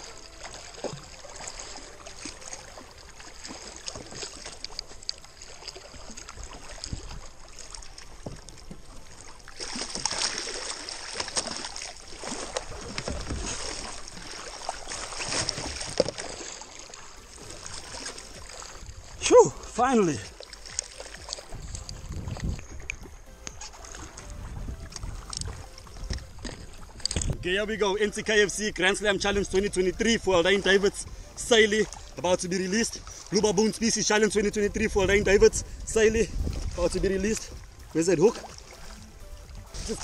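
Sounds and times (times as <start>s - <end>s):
water splashing against kayak: 0.0s - 40.0s.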